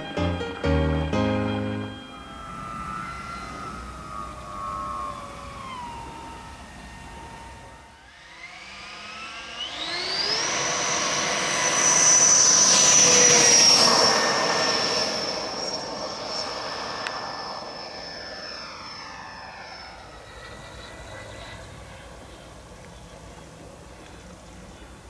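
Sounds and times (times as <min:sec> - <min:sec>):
model jet fan whine: 0:00.0 - 0:25.0.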